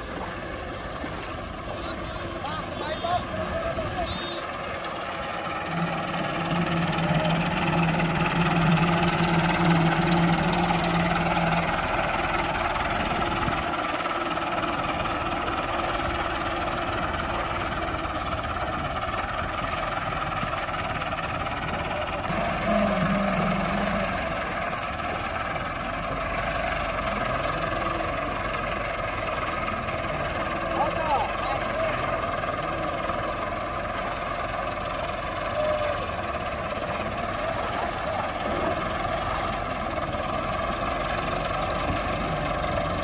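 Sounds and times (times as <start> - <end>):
diesel farm machinery engine running: 0.0 - 43.0.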